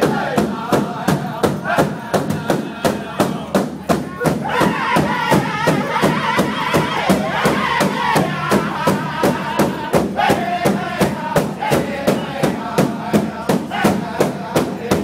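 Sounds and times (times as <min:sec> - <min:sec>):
big drum beating: 0:00.0 - 0:15.0
men chanting together: 0:00.0 - 0:15.0.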